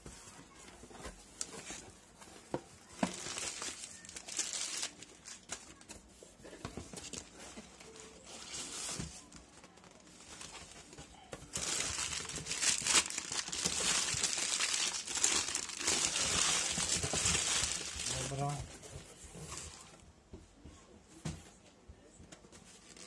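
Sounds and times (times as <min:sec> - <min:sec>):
newspaper crinkling and rustling: 0:00.0 - 0:20.0.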